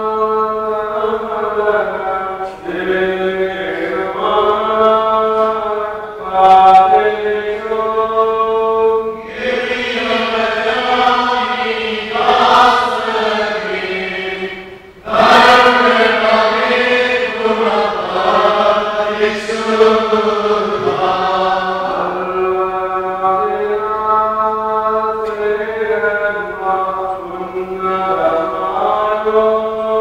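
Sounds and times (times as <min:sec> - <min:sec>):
liturgical chanting: 0:00.0 - 0:30.0.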